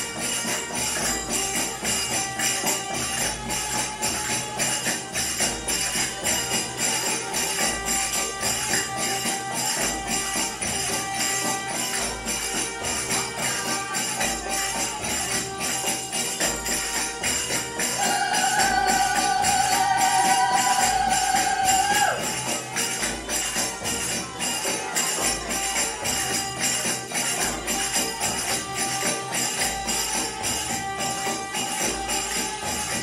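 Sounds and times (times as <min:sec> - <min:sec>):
belly dance music: 0:00.0 - 0:33.0
jingling tambourine: 0:00.0 - 0:33.0.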